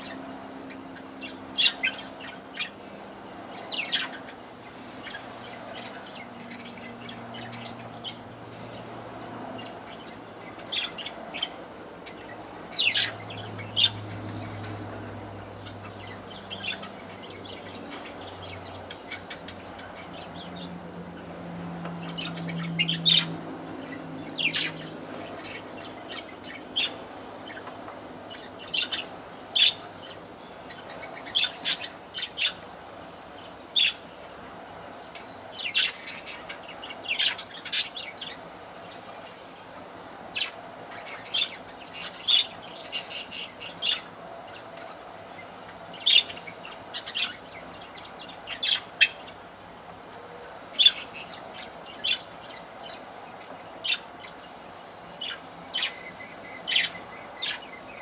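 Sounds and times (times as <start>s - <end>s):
budgerigars chirping: 0.0s - 2.8s, 3.5s - 8.8s, 9.6s - 32.8s, 33.4s - 38.4s, 40.3s - 49.6s, 50.7s - 54.5s, 55.1s - 58.0s.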